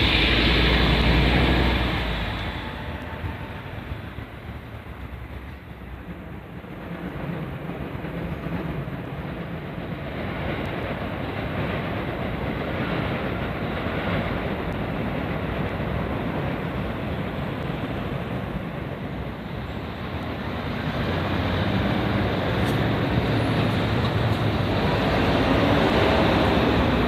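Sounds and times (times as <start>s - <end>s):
train wheels and motors running: 0.0s - 27.0s.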